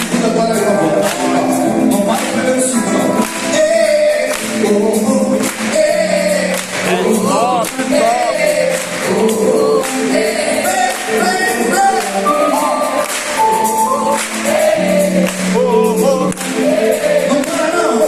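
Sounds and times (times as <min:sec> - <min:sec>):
band playing: 0:00.0 - 0:18.0
gospel group singing: 0:00.0 - 0:18.0.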